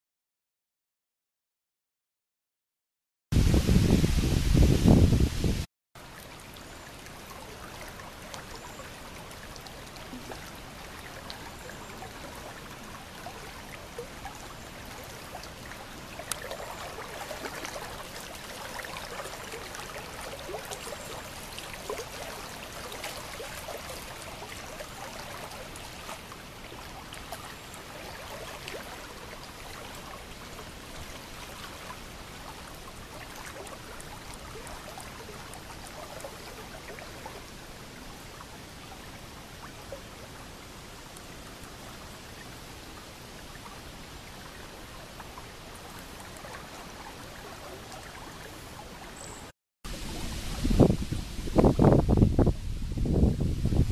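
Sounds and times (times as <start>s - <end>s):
shallow river water rippling: 6.0s - 53.9s.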